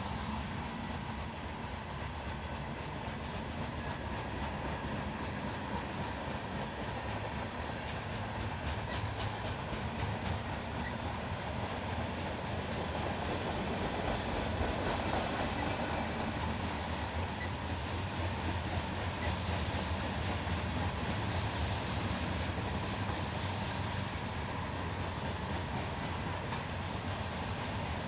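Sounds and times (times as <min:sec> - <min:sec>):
freight train cars on rails: 0:00.0 - 0:28.0.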